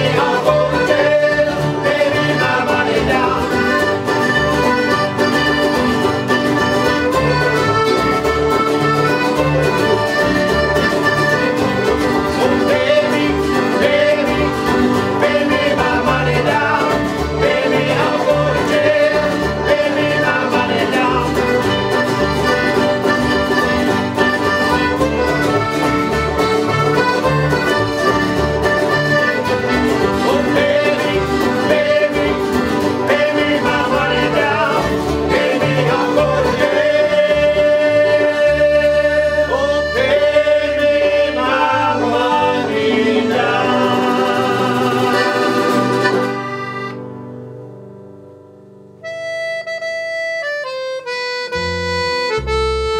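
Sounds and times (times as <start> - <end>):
acoustic folk band playing: 0.0 - 52.9.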